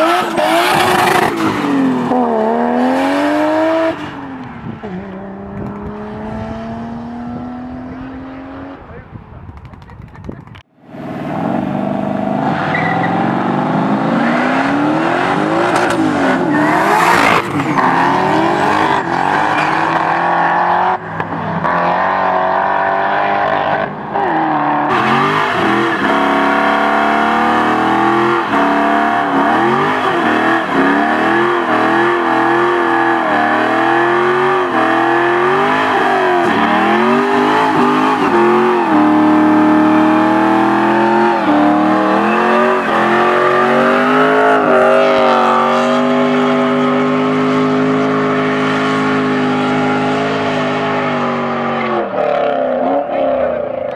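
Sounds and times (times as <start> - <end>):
car engine at full throttle: 0.0 - 53.9
tires spinning: 9.7 - 53.9.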